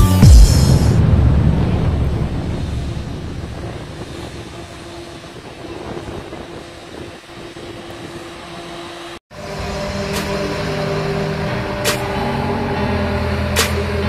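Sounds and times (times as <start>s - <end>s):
low hum: 0.0s - 14.0s
wind tunnel fans rushing air: 0.6s - 14.0s.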